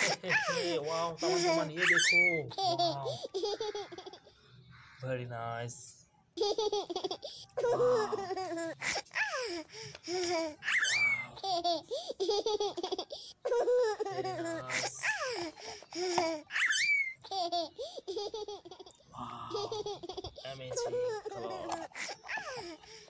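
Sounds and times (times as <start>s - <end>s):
small child laughing and babbling: 0.0s - 4.4s, 6.4s - 22.8s.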